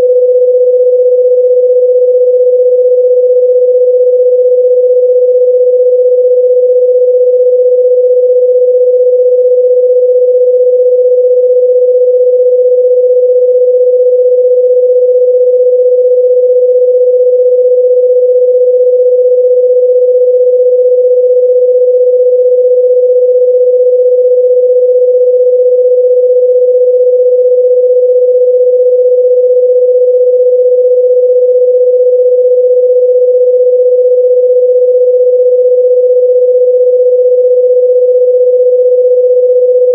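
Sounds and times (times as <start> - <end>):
steady sine-wave tone: 0.0 - 39.9.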